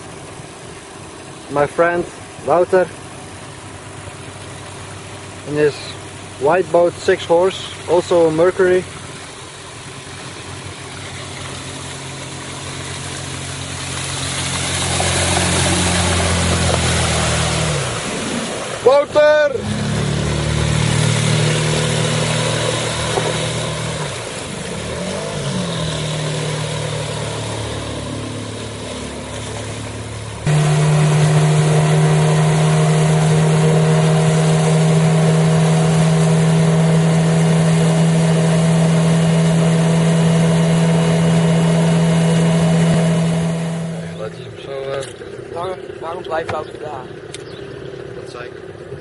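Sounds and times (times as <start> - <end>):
outboard motors running: 0.0 - 49.0.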